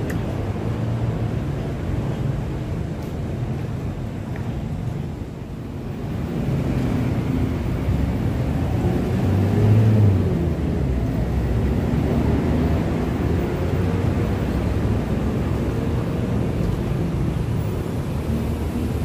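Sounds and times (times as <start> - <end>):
traffic rumble on bridge overhead: 0.0 - 19.0.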